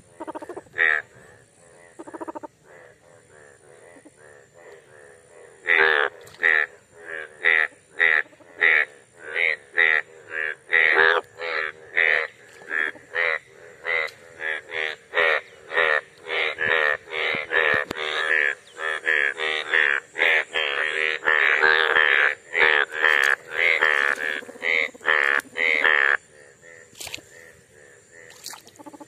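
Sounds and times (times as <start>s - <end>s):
bullfrogs croaking: 0.0s - 29.0s.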